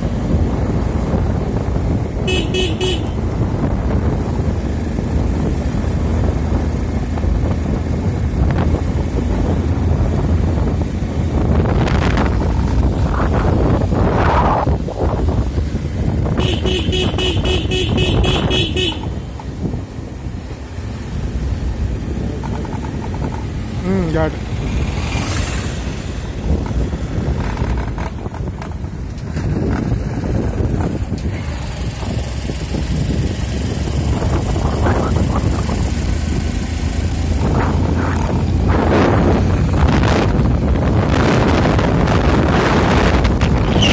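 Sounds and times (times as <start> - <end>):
motorcycle engine running: 0.0 - 43.9
vehicle road and wind rumble: 0.0 - 43.9.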